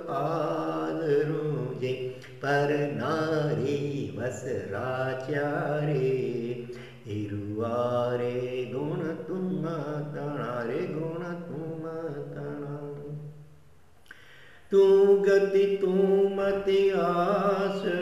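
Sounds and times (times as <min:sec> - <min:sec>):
person singing devotional hymn: 0:00.0 - 0:13.3, 0:14.1 - 0:18.0.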